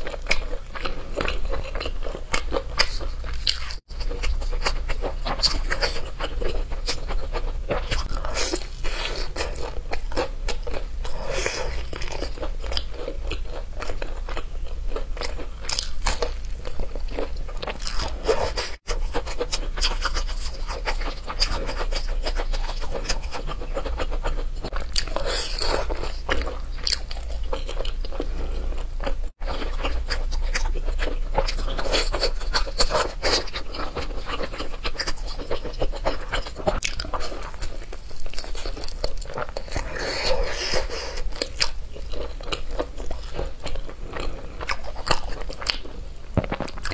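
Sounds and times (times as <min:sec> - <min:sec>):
crunching and chewing fried chicken: 0:00.0 - 0:46.9.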